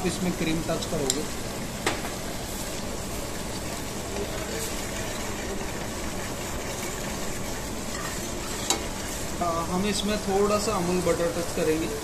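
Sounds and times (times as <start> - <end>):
gas burner roaring: 0.0 - 12.0
gravy simmering: 0.0 - 12.0
ladle stirring in a pan: 0.0 - 12.0.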